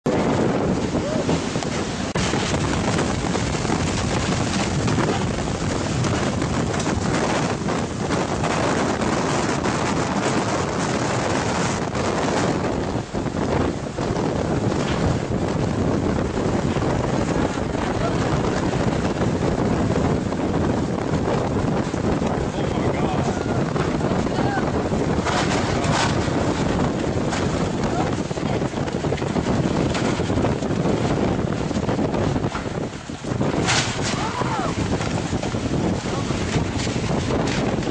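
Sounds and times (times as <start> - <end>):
strong wind on microphone: 0.0 - 37.9.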